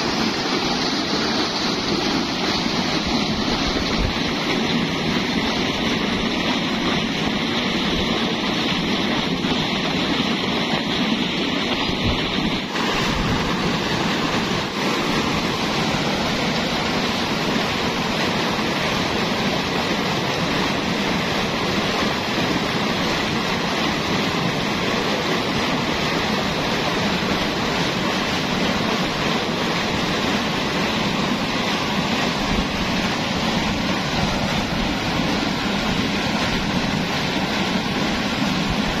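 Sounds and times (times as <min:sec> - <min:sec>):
water gushing from pipe into tank: 0:00.0 - 0:39.0.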